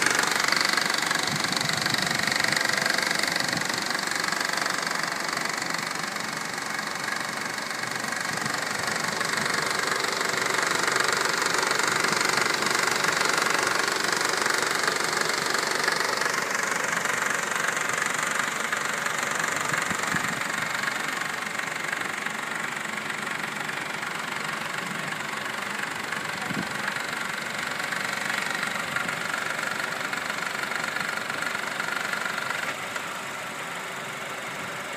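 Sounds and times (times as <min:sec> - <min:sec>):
car engine knocking rattle: 0:00.0 - 0:34.9.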